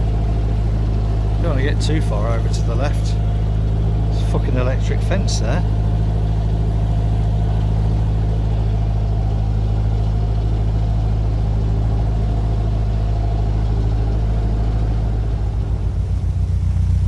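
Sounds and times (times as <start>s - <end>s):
boat diesel engine chugging: 0.0s - 17.0s.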